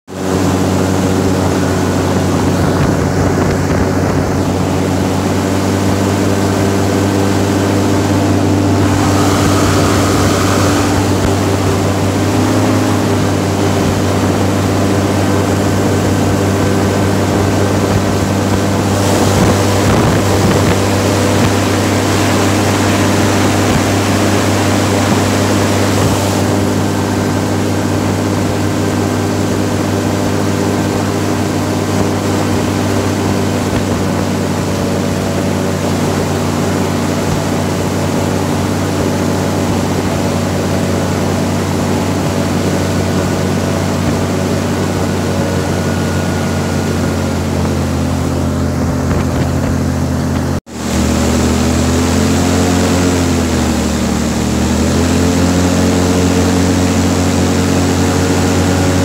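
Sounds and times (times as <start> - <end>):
boat motor humming: 0.1 - 59.0
wind and water hiss: 0.2 - 59.0.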